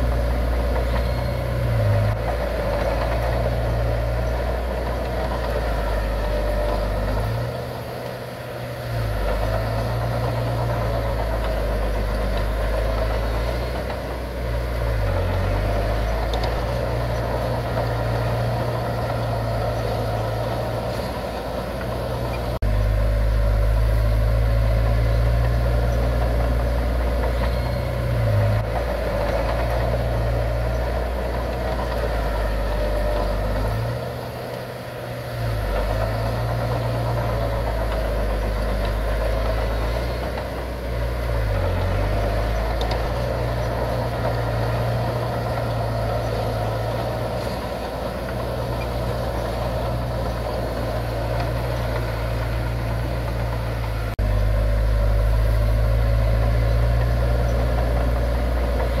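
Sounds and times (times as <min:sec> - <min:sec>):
diesel machinery engine rumble: 0:00.0 - 0:59.0.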